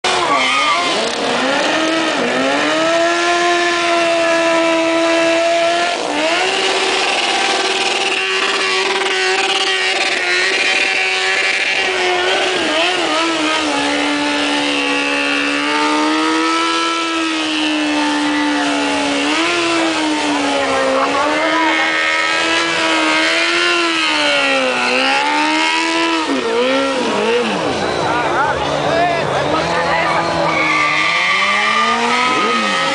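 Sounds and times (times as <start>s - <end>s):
motorcycle engines revving high: 0.0s - 32.9s
rear tyres spinning: 0.0s - 32.9s.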